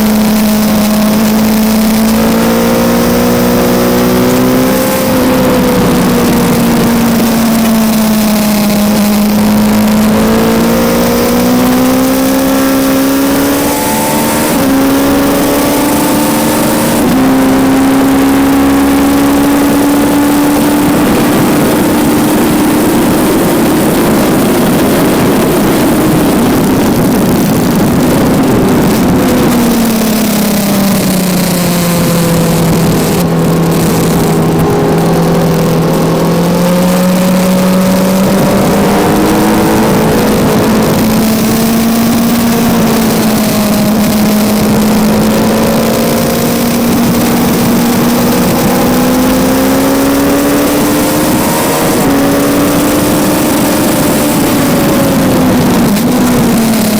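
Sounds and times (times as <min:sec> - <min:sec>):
motorcycle engine revving: 0:00.0 - 0:56.9
rushing air: 0:00.0 - 0:56.9.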